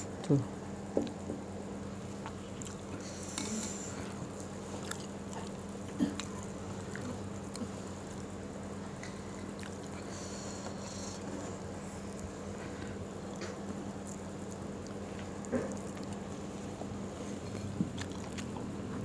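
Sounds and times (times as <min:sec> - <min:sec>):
steady low hum: 0:00.0 - 0:19.0
wet chewing and lip smacks: 0:02.1 - 0:19.0.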